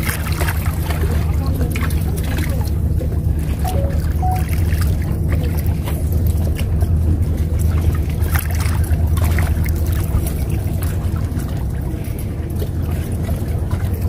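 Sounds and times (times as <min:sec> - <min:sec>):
low-pitched engine drone: 0:00.0 - 0:14.0.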